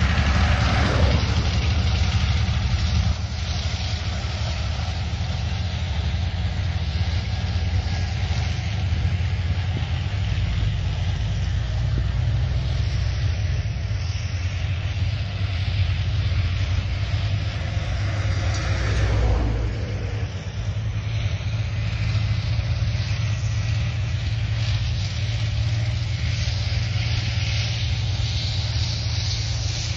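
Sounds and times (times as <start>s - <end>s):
tracked vehicles rumbling past: 0.0s - 29.9s.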